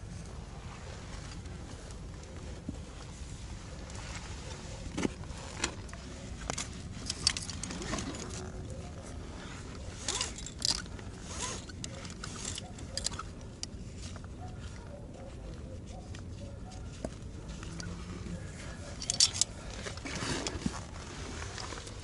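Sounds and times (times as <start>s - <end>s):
scrapes and clicks: 3.8s - 22.0s.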